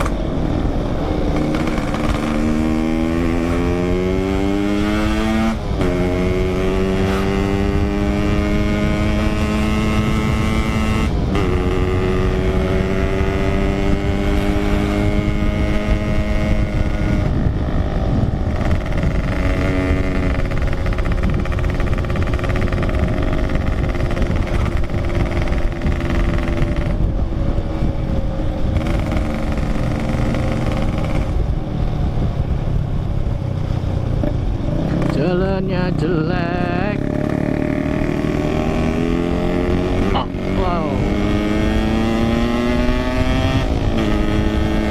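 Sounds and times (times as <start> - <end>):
motorcycle engine revving: 0.0 - 44.9
wind rumble on microphone: 0.0 - 44.9.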